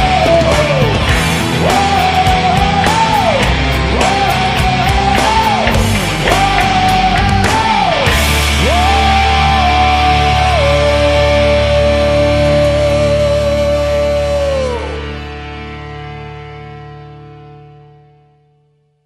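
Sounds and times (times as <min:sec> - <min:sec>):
drums: 0:00.0 - 0:16.2
heavy rock music: 0:00.0 - 0:18.2
high lead guitar line: 0:00.0 - 0:18.6.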